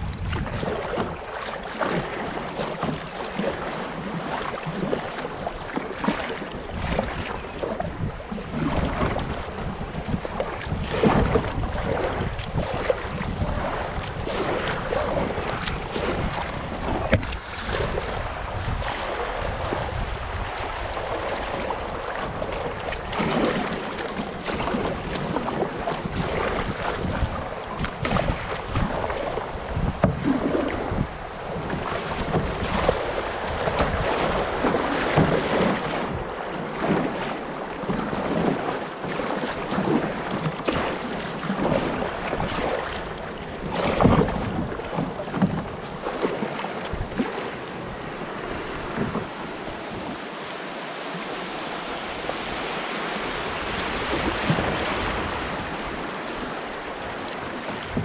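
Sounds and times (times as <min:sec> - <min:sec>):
rush of choppy water: 0:00.0 - 0:58.0
water splashing against kayak hull: 0:00.0 - 0:58.0.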